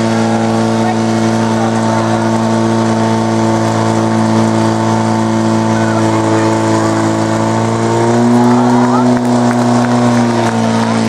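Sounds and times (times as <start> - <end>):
pump engine droning: 0.0 - 11.0.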